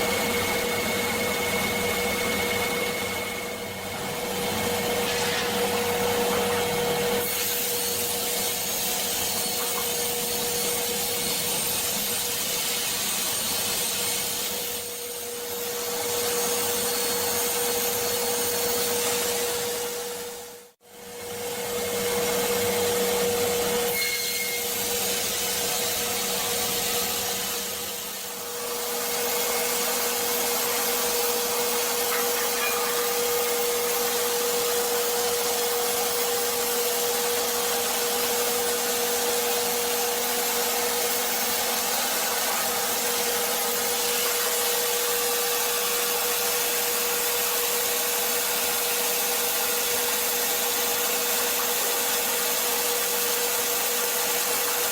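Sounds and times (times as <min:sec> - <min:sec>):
wood-cutting machine whining: 0:00.0 - 0:54.9.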